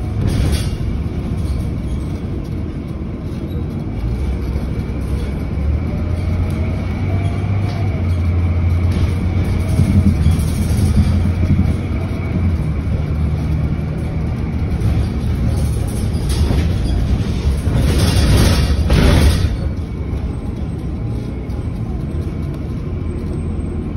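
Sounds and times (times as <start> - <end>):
bus engine drone: 0.0 - 23.9
road rumble: 0.0 - 23.9.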